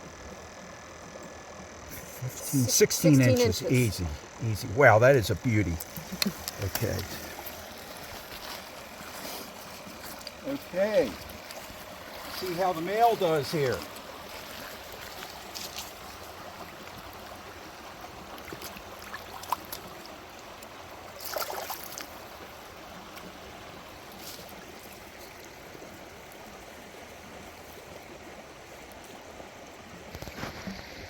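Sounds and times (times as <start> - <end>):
stream water rushing: 2.0 - 31.0.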